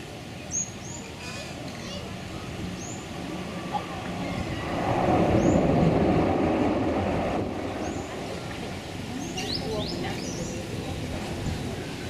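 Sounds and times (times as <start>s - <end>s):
turboprop engines roaring: 1.6s - 12.0s.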